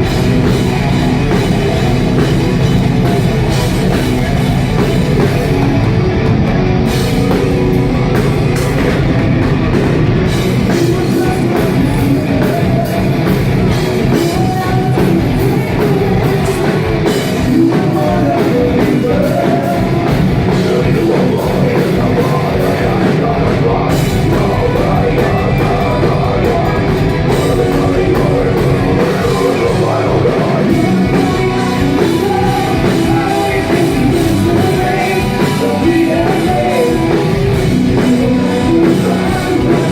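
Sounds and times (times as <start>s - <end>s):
live metal band playing: 0.0s - 39.9s.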